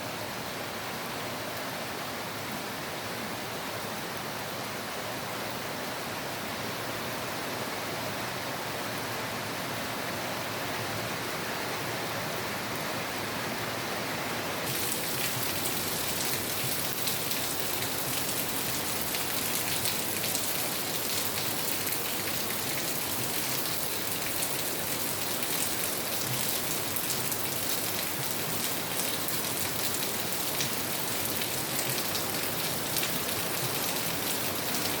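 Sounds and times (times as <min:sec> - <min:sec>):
steady rain falling: 0:00.1 - 0:35.0.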